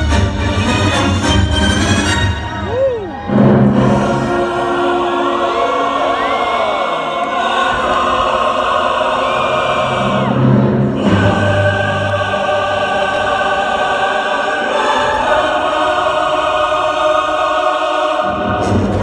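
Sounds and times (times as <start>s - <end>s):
orchestral music: 0.0s - 19.0s
choir singing held chords: 3.3s - 19.0s.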